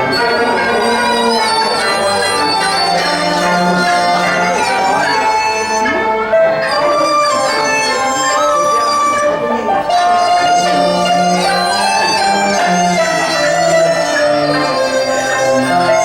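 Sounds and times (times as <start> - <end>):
traditional ensemble playing sliding melody: 0.0 - 16.0.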